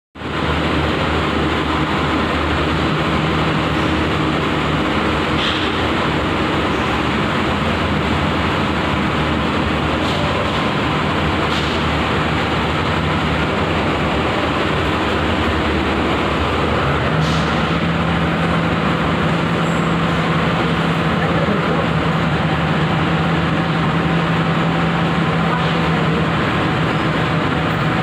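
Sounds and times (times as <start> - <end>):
workshop machinery drone: 0.2 - 28.0.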